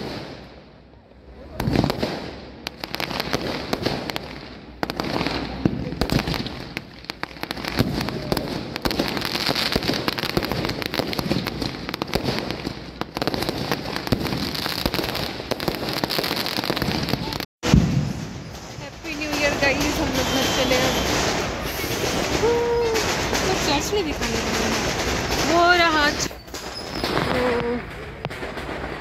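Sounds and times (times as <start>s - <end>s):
fireworks popping and crackling: 0.0s - 29.0s
fireworks hissing: 1.7s - 29.0s.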